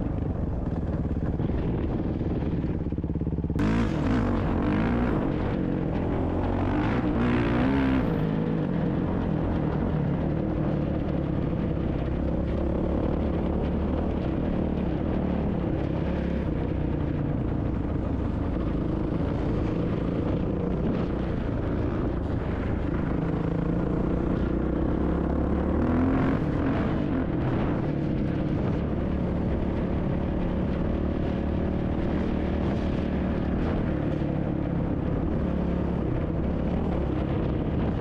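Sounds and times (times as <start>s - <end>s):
dirt bike engine running: 0.0s - 38.0s.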